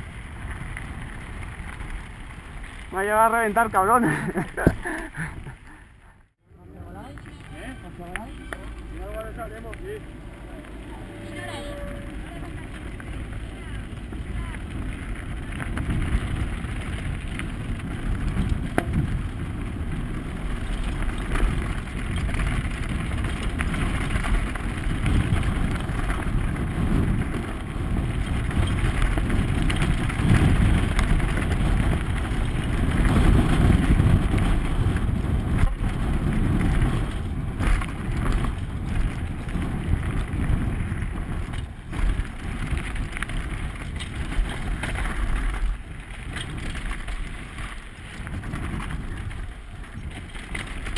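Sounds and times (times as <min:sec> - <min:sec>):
tyres rolling over gravel: 0:00.0 - 0:05.8, 0:06.5 - 0:50.9
wind rushing over microphone: 0:06.4 - 0:50.9.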